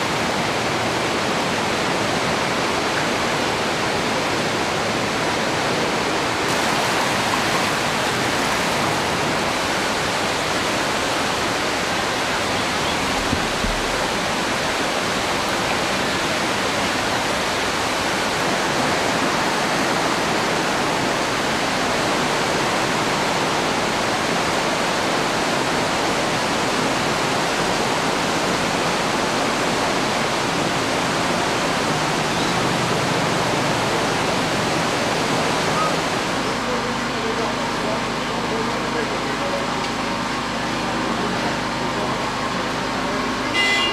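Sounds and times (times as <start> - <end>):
river rushing in flood: 0.0 - 43.9.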